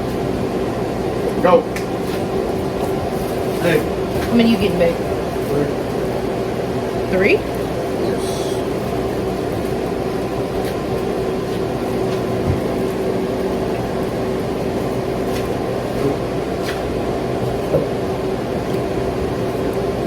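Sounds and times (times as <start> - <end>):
kitchen appliance fan humming: 0.0 - 20.0.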